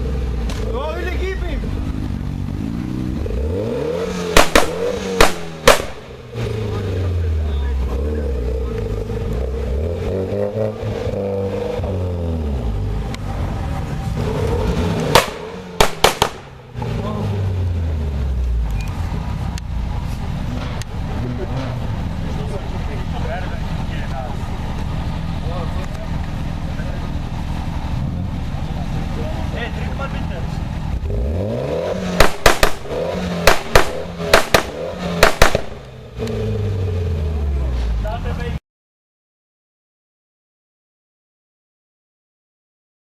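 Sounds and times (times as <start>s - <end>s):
car engine rumbling low: 0.0s - 38.6s
exhaust bangs: 0.0s - 38.6s.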